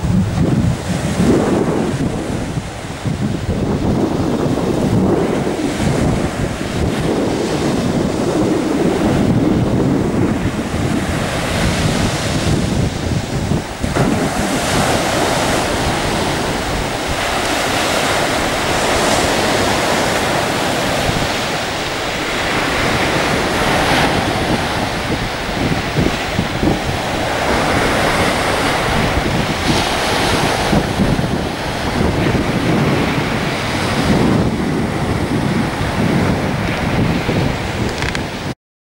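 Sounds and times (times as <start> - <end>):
surf breaking on shore: 0.0 - 38.6
wind buffeting microphone: 0.0 - 38.6.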